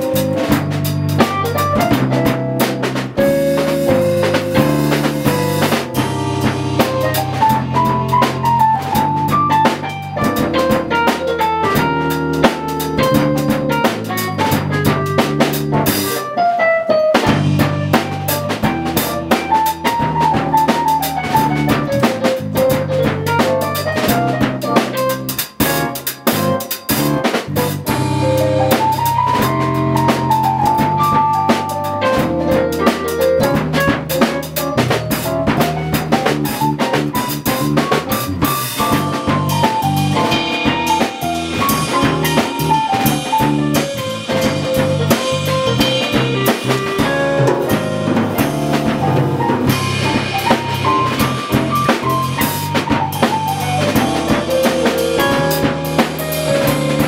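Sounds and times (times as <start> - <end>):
drum kit: 0.0 - 57.0
jazz trio playing: 0.0 - 57.0.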